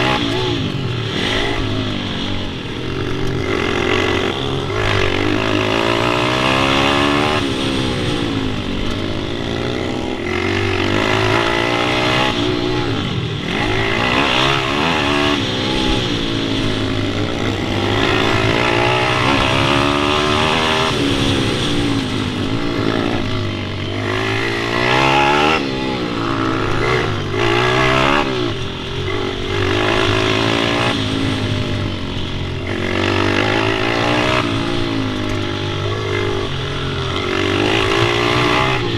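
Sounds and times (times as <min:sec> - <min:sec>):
pit bike engine revving: 0:00.0 - 0:38.9.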